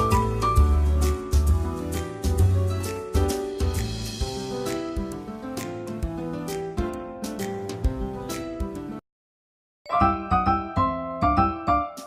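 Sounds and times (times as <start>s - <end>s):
upbeat instrumental music: 0.0s - 9.0s, 9.8s - 12.0s.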